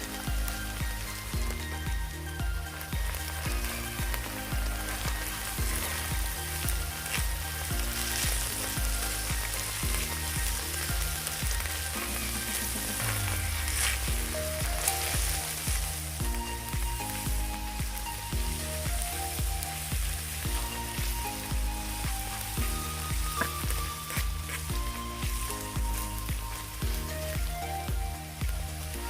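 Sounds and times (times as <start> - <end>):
background music with a beat: 0.0 - 29.0
rice sizzling on a griddle: 0.0 - 29.0.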